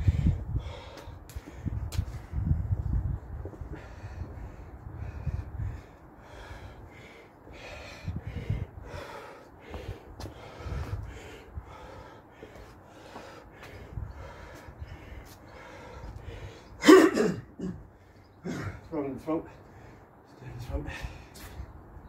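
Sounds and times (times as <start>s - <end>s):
man panting and gasping: 0.0s - 2.8s, 3.6s - 21.8s.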